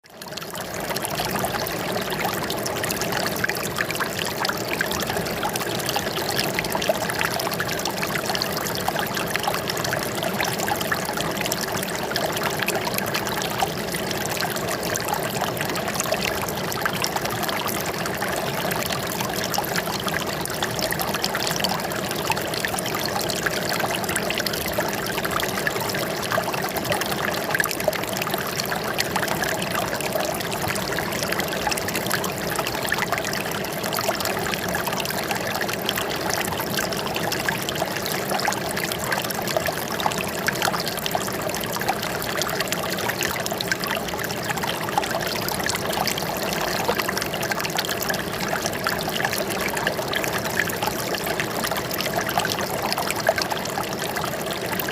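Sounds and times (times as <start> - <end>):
water trickling and splashing: 0.2 - 54.9.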